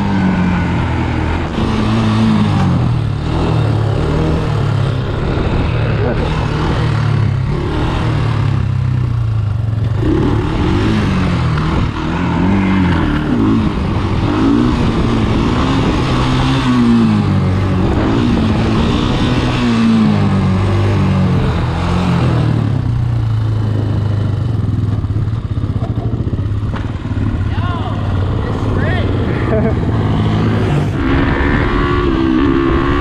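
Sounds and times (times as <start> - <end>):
atv engine revving: 0.0 - 33.0.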